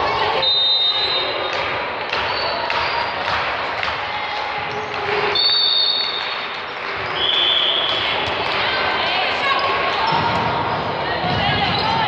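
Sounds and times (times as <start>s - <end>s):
voices: 0.0s - 12.0s.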